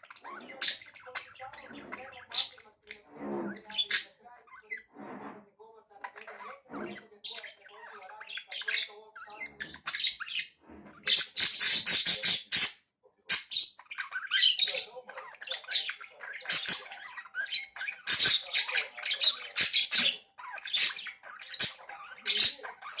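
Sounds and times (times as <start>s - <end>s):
budgerigars chirping and squawking: 0.0s - 5.3s, 6.0s - 23.0s.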